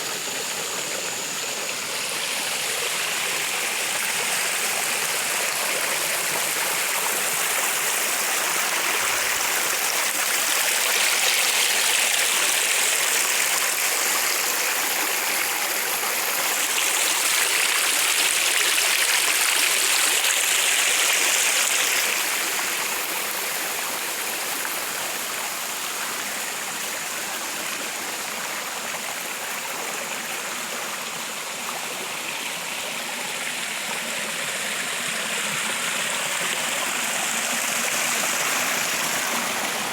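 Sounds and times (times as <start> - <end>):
stream water rushing and splashing: 0.0 - 39.9.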